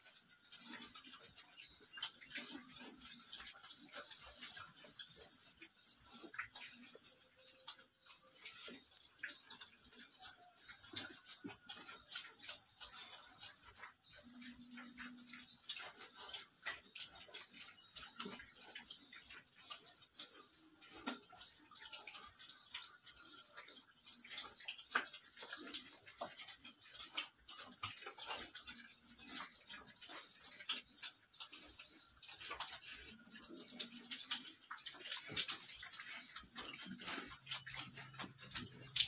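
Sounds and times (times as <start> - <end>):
small bird chirping: 0.0 - 39.0.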